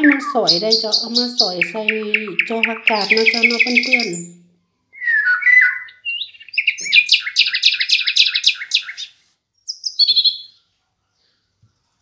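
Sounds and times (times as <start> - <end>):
songbird singing: 0.0 - 11.4.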